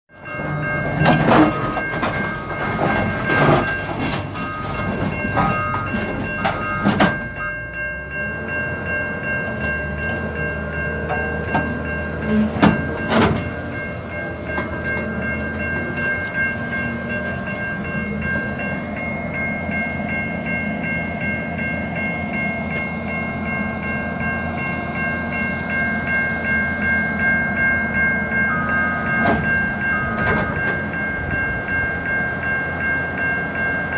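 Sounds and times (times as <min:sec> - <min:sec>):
steel tracks clanking on metal: 0:00.1 - 0:33.9.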